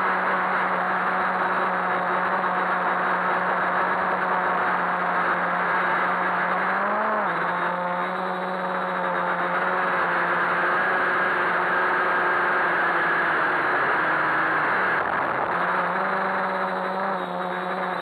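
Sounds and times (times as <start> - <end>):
drone propellers whirring: 0.0 - 18.0.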